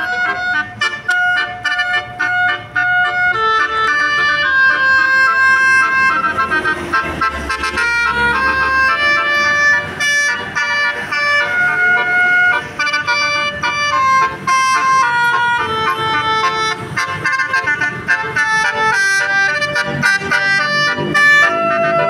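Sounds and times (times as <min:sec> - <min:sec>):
bus air horn melody: 0:00.0 - 0:22.0.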